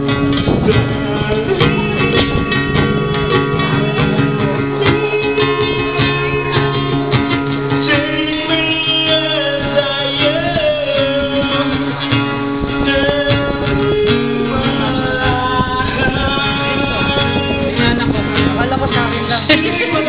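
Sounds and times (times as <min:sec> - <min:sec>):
live band playing: 0:00.0 - 0:20.0
strummed acoustic guitar: 0:00.0 - 0:20.0
wavering melody line: 0:00.0 - 0:20.0.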